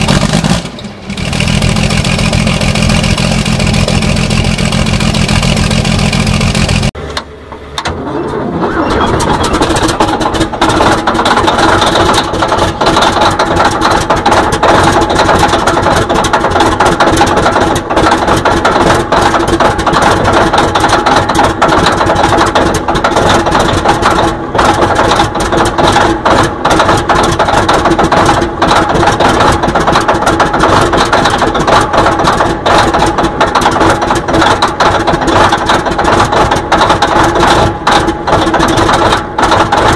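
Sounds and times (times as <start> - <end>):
diesel engine starting and knocking: 0.0 - 39.9
large diesel engine running: 0.0 - 39.9.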